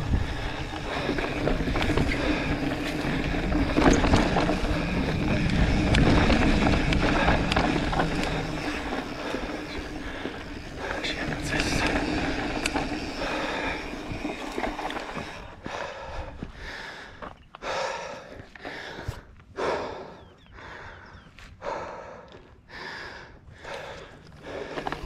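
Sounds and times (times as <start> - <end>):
person breathing hard: 0.0 - 3.6, 7.6 - 25.0
tyres on dirt trail: 0.0 - 25.0.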